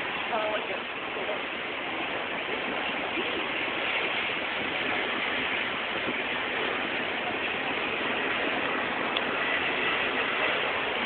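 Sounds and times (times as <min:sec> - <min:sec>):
bus running: 0:00.0 - 0:11.0.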